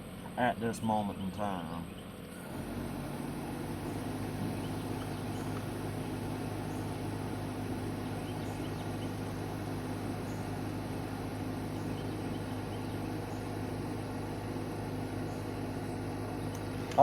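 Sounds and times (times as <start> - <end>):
air conditioning running: 0.0 - 17.0
car engine idling: 0.0 - 17.0.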